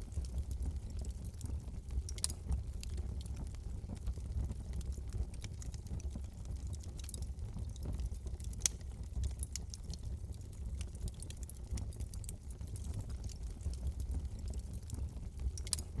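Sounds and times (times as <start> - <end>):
low steady fire rumble: 0.0 - 16.0
wood fire crackling and popping: 0.0 - 16.0.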